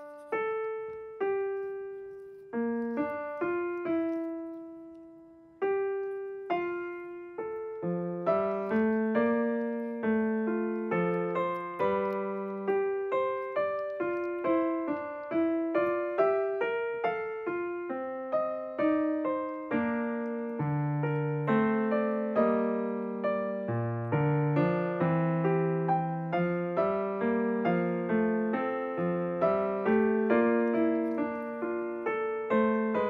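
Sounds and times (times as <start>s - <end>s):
calm piano music: 0.0s - 33.0s.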